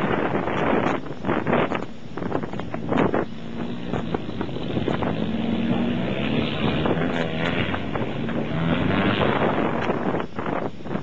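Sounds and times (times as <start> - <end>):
off-road engine running under load: 1.9 - 10.7.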